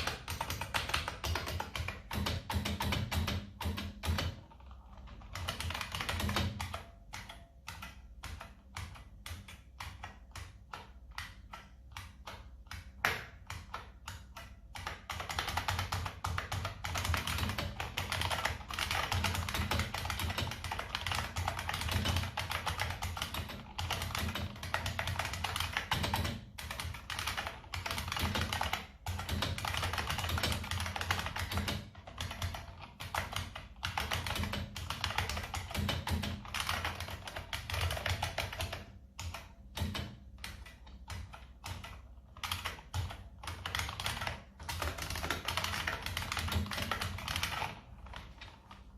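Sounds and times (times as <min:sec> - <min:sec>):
keyboard typing clicks: 0:00.0 - 0:48.9.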